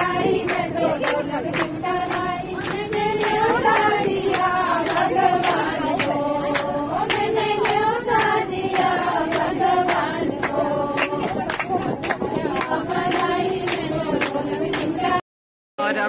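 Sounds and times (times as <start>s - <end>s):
hand claps keeping time: 0.0s - 15.2s
women singing in chorus: 0.0s - 15.2s.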